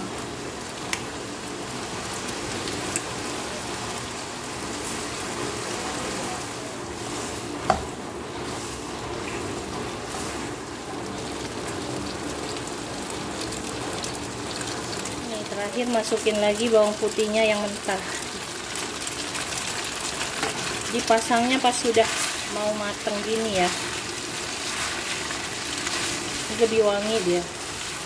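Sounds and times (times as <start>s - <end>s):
noodles sizzling in a wok: 0.0s - 28.0s.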